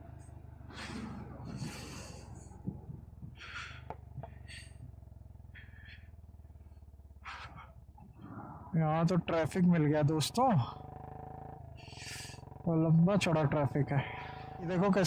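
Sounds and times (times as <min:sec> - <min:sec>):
motorcycle engine humming: 0:00.0 - 0:15.0.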